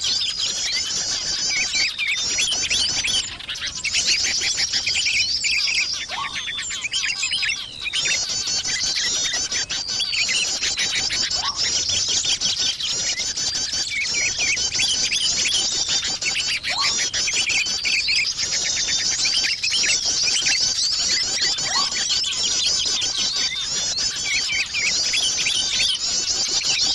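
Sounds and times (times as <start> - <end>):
songbirds chirping and twittering: 0.0 - 26.9.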